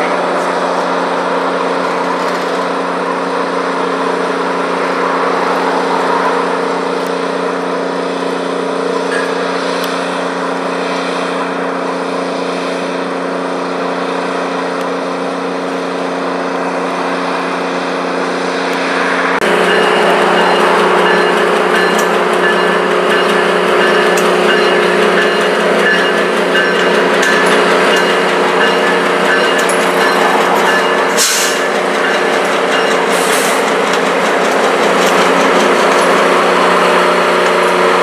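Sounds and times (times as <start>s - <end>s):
diesel locomotive engine hum: 0.0s - 38.0s
train running noise: 0.0s - 38.0s.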